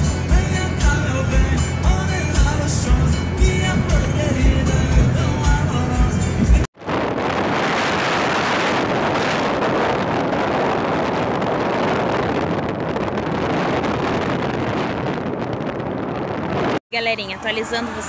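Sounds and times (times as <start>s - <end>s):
wind rushing over microphone: 0.0s - 16.8s
car road noise: 0.0s - 18.0s.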